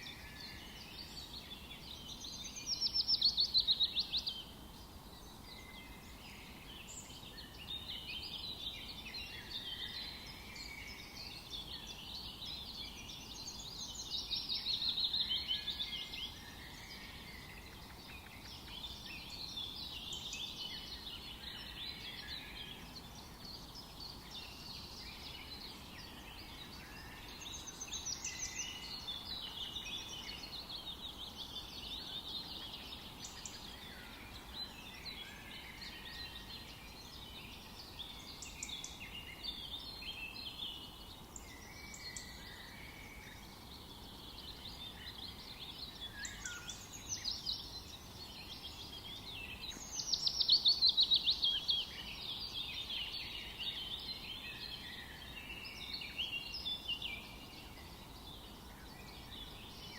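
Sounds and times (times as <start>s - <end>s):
forest birds singing: 0.0s - 59.9s
low background hiss: 0.0s - 59.9s.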